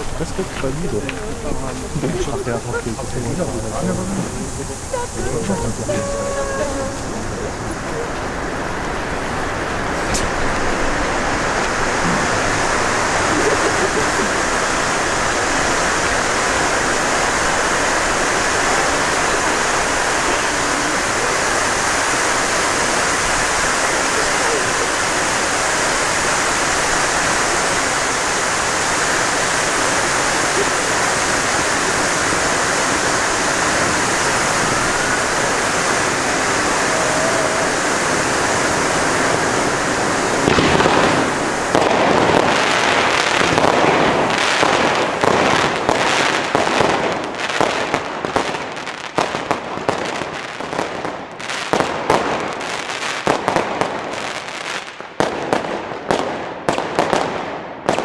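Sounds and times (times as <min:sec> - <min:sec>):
firework fountains hissing: 0:00.0 - 0:58.0
firework shots and bangs: 0:09.0 - 0:58.0.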